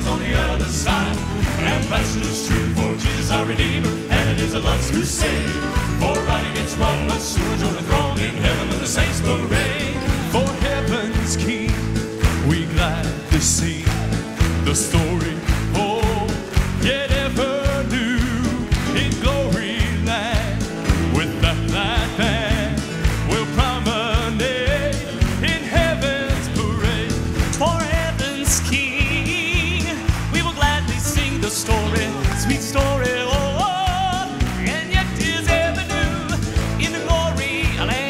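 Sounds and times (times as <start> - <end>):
audience clapping along: 0.0 - 38.0
band accompaniment: 0.0 - 38.0
male vocal quartet singing: 0.0 - 38.0.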